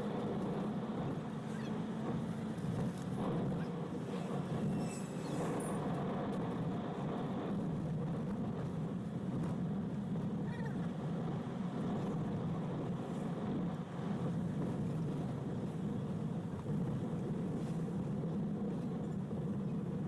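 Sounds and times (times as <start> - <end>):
van engine and road noise: 0.0 - 20.0.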